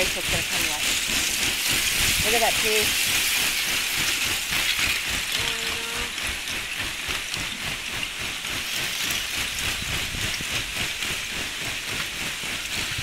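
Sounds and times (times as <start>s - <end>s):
ice grinding and tinkling: 0.0s - 13.0s.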